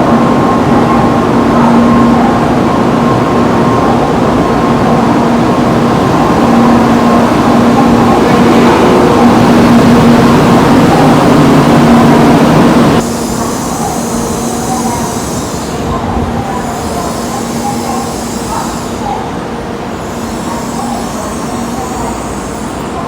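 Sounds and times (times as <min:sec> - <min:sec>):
train rumble: 0:00.0 - 0:23.0
faint voices: 0:00.1 - 0:23.0.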